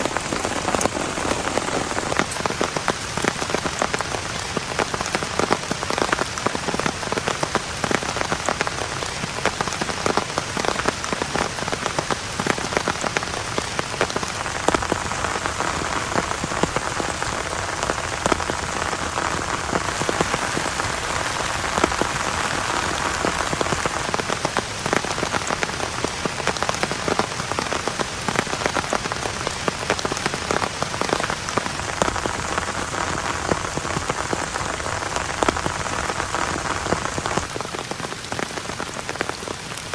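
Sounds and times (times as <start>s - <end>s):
heavy rain: 0.0s - 39.9s
raindrops ticking close by: 0.0s - 39.9s.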